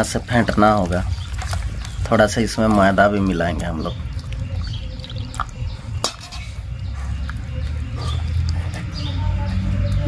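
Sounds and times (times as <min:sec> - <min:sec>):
hand squishing wet batter: 0:00.0 - 0:10.0.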